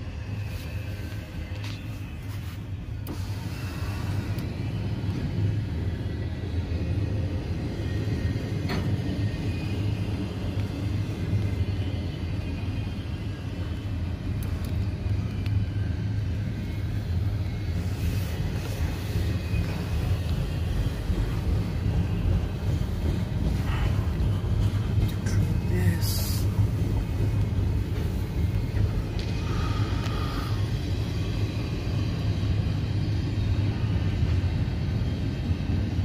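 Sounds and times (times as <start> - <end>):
freight train rumbling on rails: 0.0 - 36.0.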